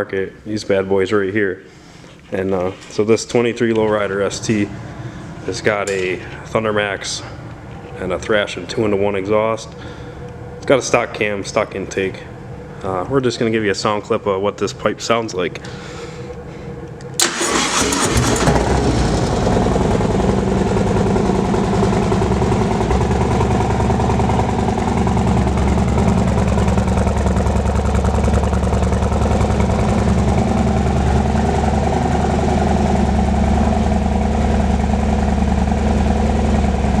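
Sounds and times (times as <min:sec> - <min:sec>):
motorcycle engine starting and idling: 0:02.0 - 0:12.7, 0:16.3 - 0:37.0.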